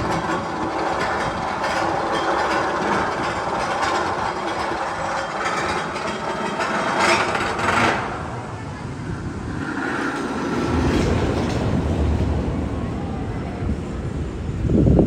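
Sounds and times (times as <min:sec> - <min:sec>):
roller coaster ratcheting clatter: 0:00.0 - 0:13.0.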